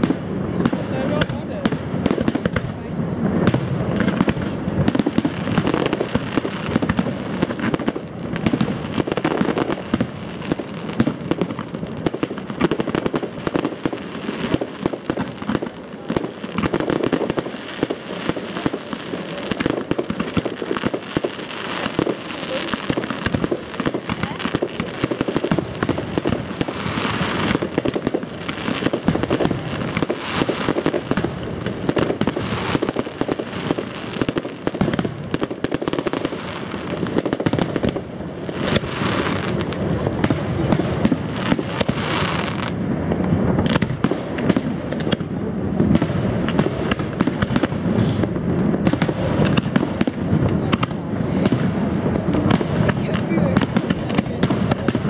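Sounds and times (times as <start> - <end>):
crackling firework bursts: 0.0 - 55.0
fireworks bursting: 0.0 - 55.0.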